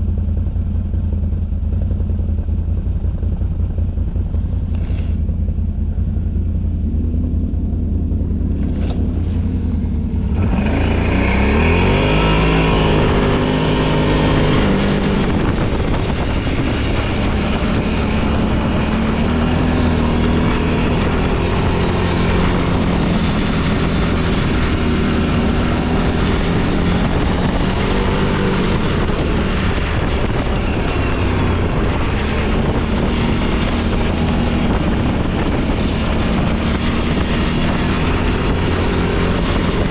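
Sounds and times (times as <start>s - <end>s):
off-road vehicle engine revving: 4.3s - 39.9s
rushing noise: 4.9s - 39.9s.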